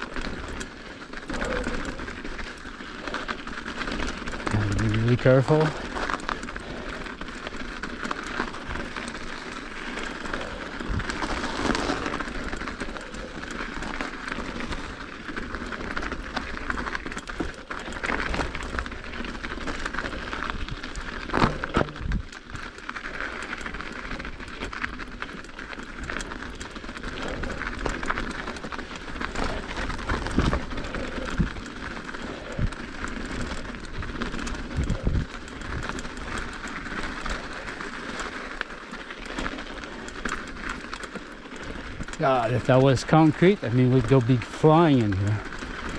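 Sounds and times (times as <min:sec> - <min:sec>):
bike tyres rolling on ice: 0:00.0 - 0:45.9
bike clicks and knocks: 0:00.1 - 0:42.2
bike clattering: 0:00.1 - 0:45.9.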